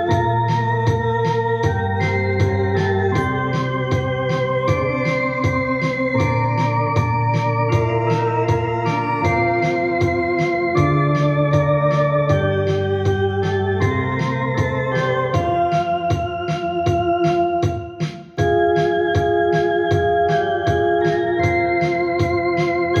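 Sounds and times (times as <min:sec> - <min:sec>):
electronic organ playing a hymn: 0:00.0 - 0:23.0
steady ticking pulse: 0:00.0 - 0:23.0.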